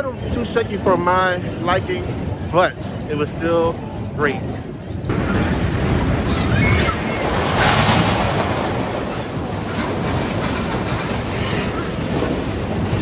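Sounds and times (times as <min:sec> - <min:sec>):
roller coaster rolling on track: 0:00.0 - 0:13.0.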